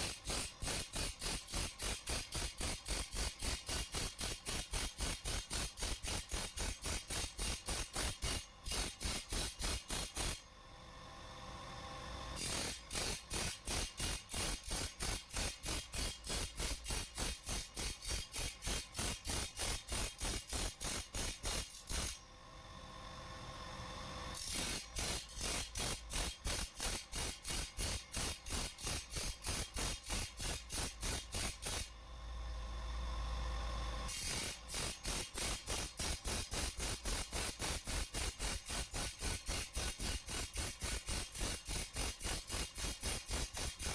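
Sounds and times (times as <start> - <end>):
rasping file strokes on metal blade: 0.0 - 10.4, 12.4 - 22.2, 24.4 - 31.9, 34.1 - 43.9.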